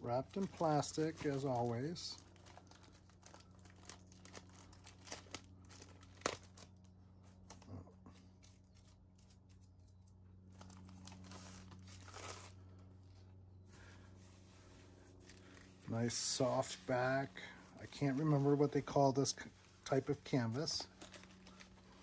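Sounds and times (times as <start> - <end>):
plastic wrapping crinkling and tearing: 0.0 - 12.9, 15.1 - 22.0.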